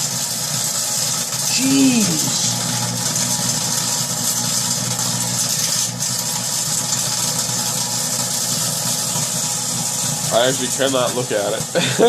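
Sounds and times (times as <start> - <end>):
microwave electrical hum: 0.0 - 12.0.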